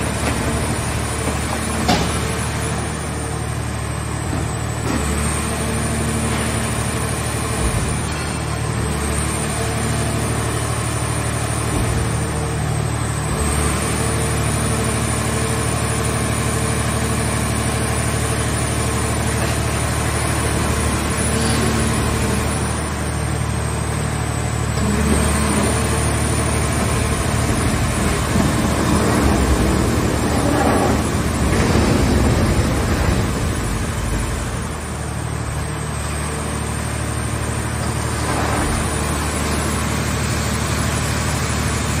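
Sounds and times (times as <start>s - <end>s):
hydraulic power unit humming: 0.0s - 42.0s.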